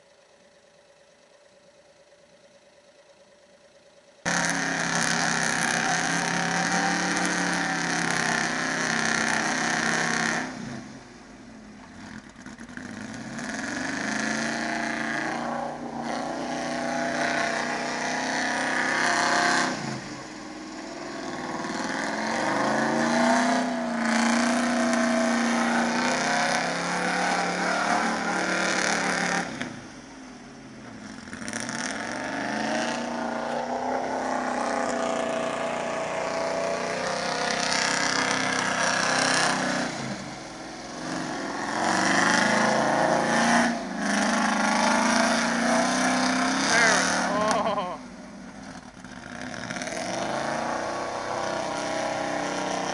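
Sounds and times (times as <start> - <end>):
truck engine revving hard: 4.3 - 10.9, 12.0 - 30.0, 31.0 - 48.0, 48.6 - 52.9.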